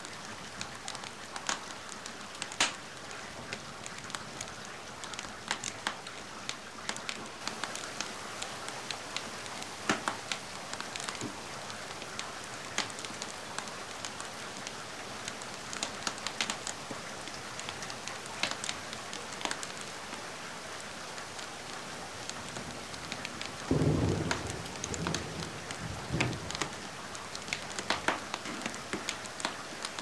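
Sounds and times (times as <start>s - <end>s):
rain hiss: 0.0s - 30.0s
wood fire crackling and popping: 0.5s - 19.9s, 22.2s - 30.0s.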